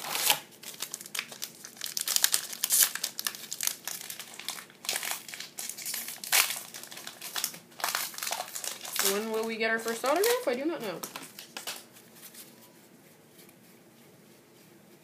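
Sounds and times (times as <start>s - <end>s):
foil wrapper crinkling: 0.0s - 12.6s.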